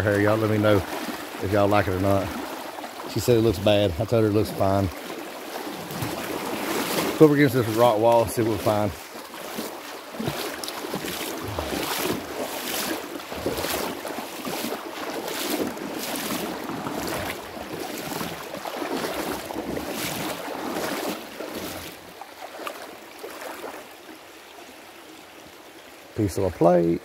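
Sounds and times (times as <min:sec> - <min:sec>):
legs wading through shallow water: 0:00.0 - 0:27.0.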